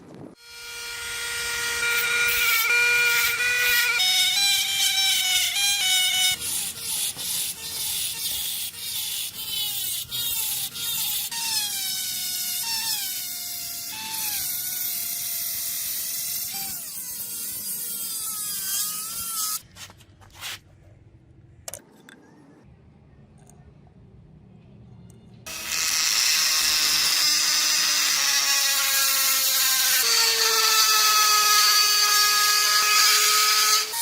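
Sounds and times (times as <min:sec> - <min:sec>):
power tool grinding metal: 0:00.4 - 0:19.6, 0:25.5 - 0:34.0.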